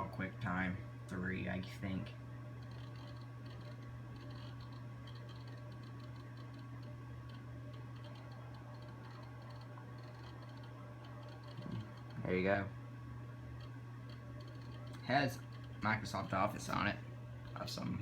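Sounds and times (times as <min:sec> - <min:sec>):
computer hum: 0:00.0 - 0:18.0
hard drive ticking: 0:00.1 - 0:18.0.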